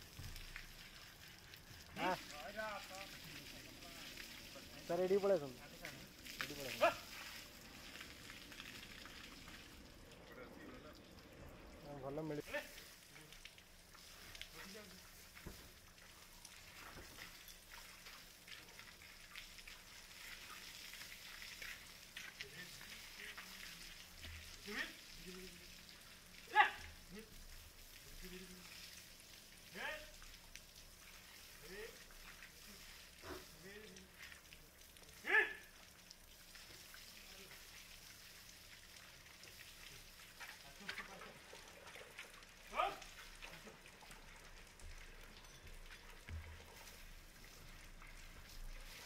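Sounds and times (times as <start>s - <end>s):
hose spraying water: 0.0s - 11.2s, 11.8s - 49.0s
water splashing and dripping: 0.0s - 49.0s.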